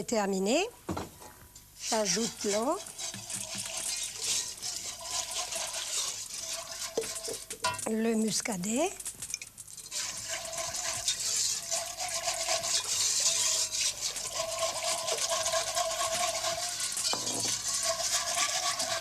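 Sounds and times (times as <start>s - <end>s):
sauce stirred in a pot: 1.6s - 19.0s.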